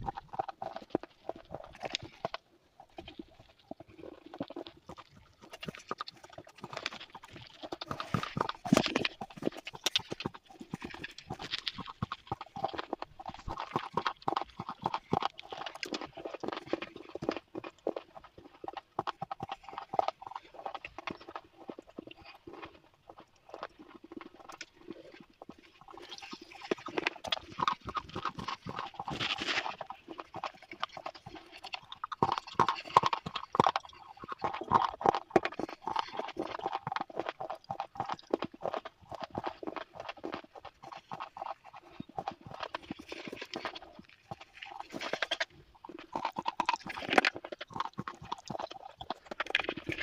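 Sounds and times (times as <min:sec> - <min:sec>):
crunching and chewing: 0:00.0 - 0:50.0.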